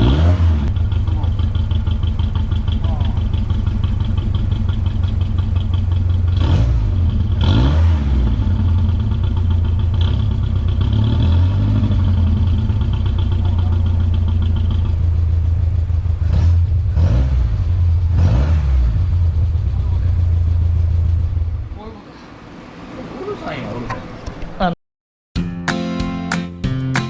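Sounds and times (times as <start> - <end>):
truck engine idling and revving: 0.0 - 24.6.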